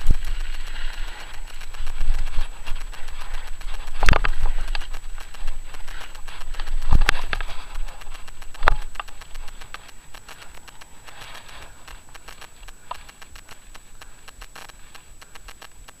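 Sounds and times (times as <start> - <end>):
bike rattling clicks: 0.0 - 16.0
bike tyres crunching on gravel: 0.0 - 16.0.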